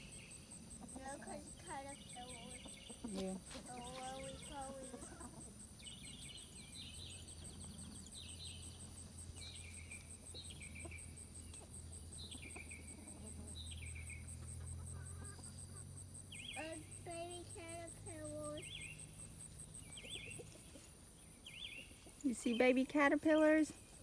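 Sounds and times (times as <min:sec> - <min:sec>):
bird chirping: 0:00.0 - 0:24.0
faint low hum: 0:00.0 - 0:24.0.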